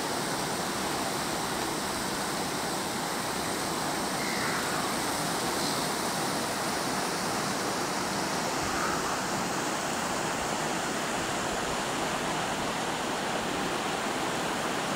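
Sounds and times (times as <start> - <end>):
water rushing over weir: 0.0 - 14.9.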